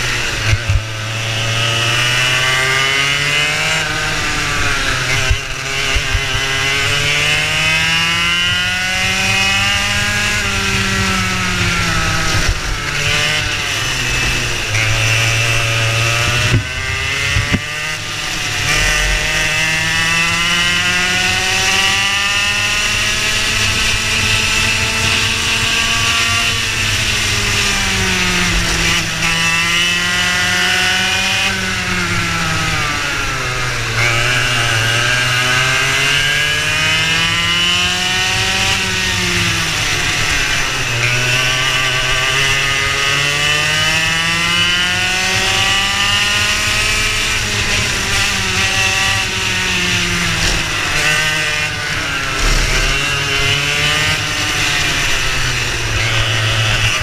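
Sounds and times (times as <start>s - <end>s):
kart engine buzzing: 0.0s - 57.0s.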